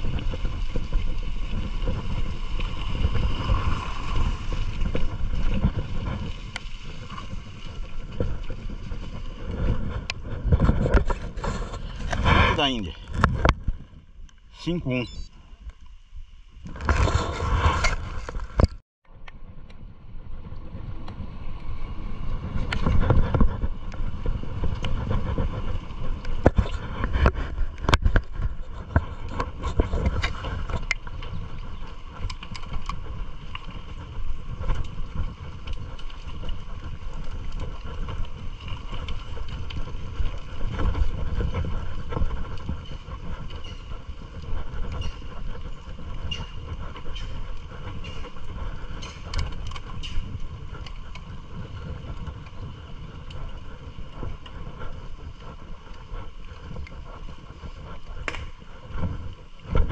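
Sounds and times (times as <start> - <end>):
bike rattling and clicking: 0.0 - 14.0, 17.8 - 59.9
bike tyres rolling on wet pavement: 0.0 - 14.2, 19.1 - 59.9.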